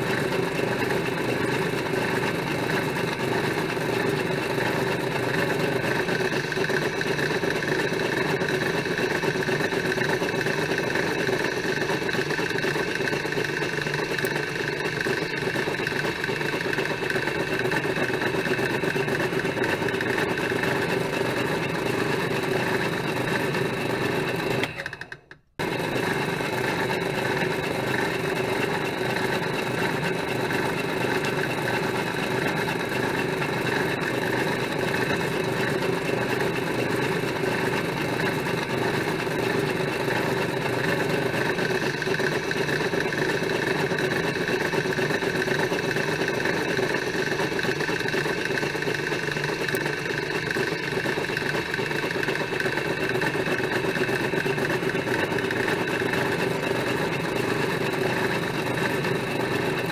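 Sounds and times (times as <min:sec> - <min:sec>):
drill press motor humming: 0:00.0 - 0:59.9.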